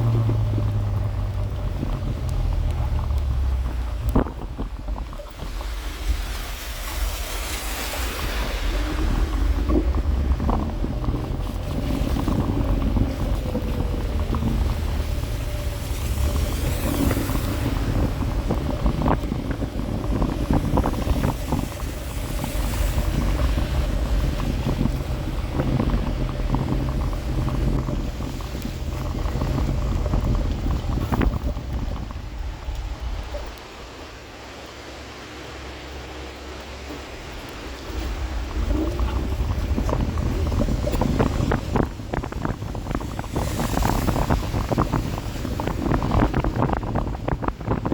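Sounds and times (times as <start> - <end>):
low rumble: 0.0 - 47.9
wind buffeting microphone: 0.0 - 47.9.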